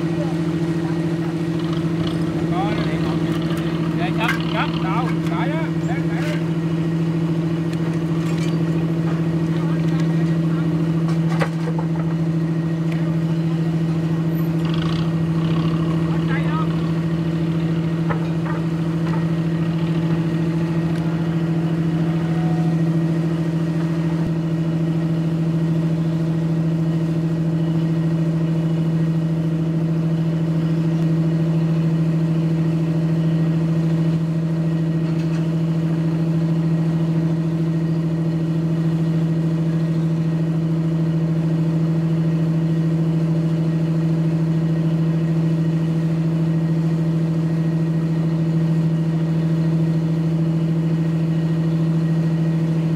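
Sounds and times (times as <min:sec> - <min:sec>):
engine idling: 0:00.0 - 0:52.9.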